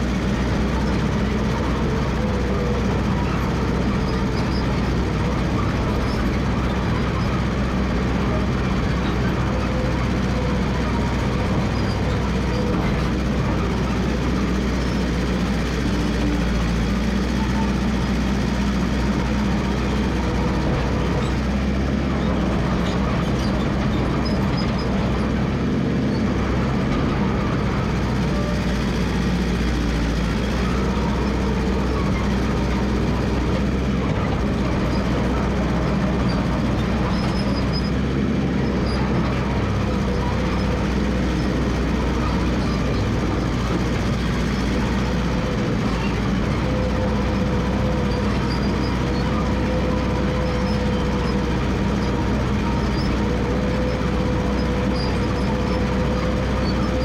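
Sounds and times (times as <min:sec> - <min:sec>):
crawler dozer engine running: 0:00.0 - 0:57.0.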